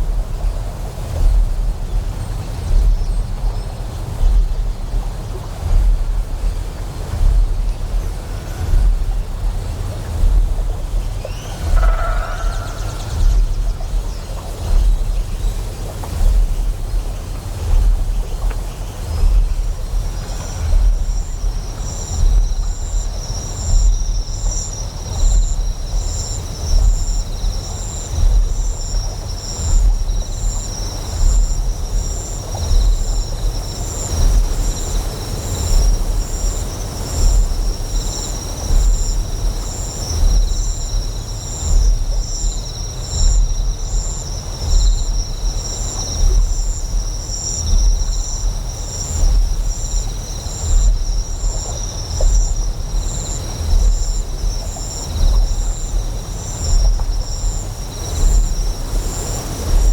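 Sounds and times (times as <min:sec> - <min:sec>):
deep pulsing generator hum: 0:00.0 - 0:59.9
flowing water: 0:00.0 - 0:59.9
insects chirping: 0:00.0 - 0:59.9.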